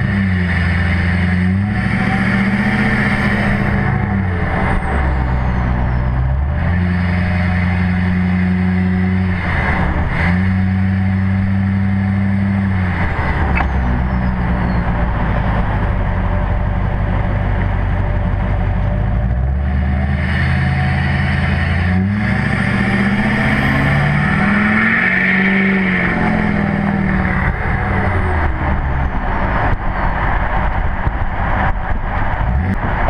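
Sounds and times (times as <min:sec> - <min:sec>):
loud diesel engine running: 0:00.0 - 0:33.0.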